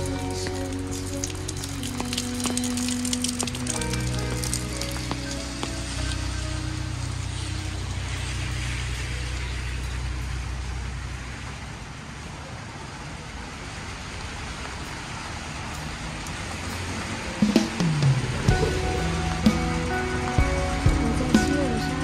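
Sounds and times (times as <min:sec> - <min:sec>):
rain hissing on wet road: 0:00.0 - 0:22.0
vehicle engine rumble: 0:00.0 - 0:22.0.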